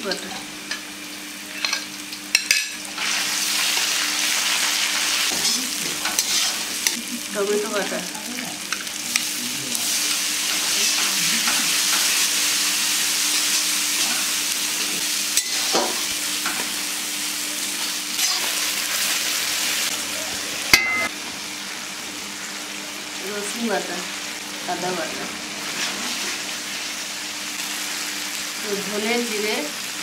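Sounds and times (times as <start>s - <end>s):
paste sizzling in hot oil: 1.0s - 30.0s.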